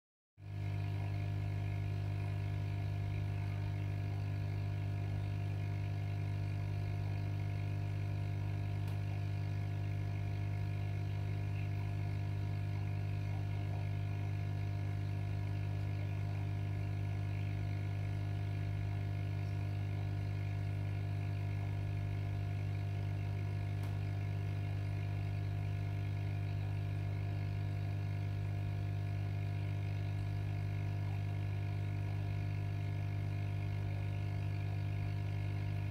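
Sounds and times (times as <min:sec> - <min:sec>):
low electrical hum: 0:00.4 - 0:35.9.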